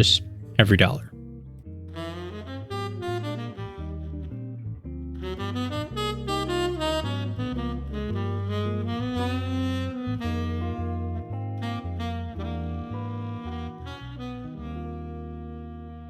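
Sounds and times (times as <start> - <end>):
walking bass line: 0.0 - 16.0
saxophone: 1.9 - 16.0.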